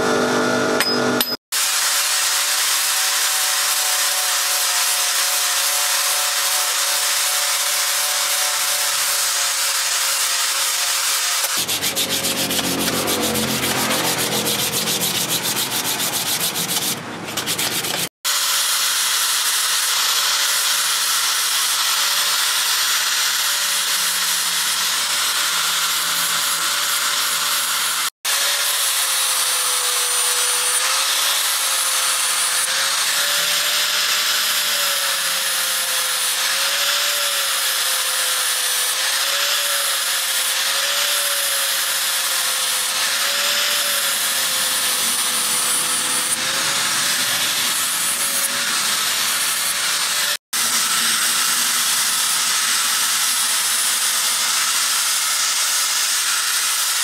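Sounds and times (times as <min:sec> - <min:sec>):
angle grinder sanding: 0:00.8 - 0:57.0.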